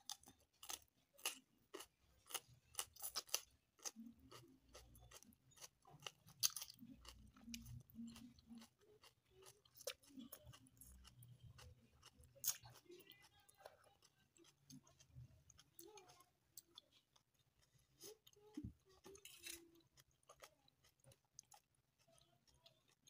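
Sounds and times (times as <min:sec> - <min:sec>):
crunchy chewing: 0:00.0 - 0:23.0.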